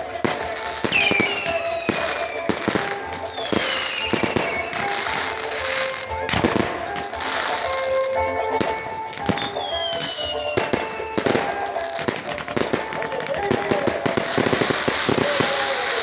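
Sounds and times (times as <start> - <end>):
background music: 0.0 - 16.0
falling firework whistle: 0.0 - 16.0
fireworks crackling bangs: 0.0 - 16.0.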